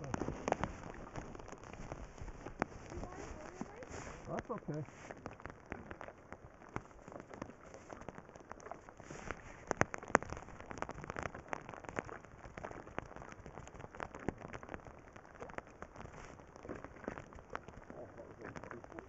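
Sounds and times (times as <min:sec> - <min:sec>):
water dripping and pattering: 0:00.0 - 0:19.0
water splashes: 0:00.0 - 0:19.0.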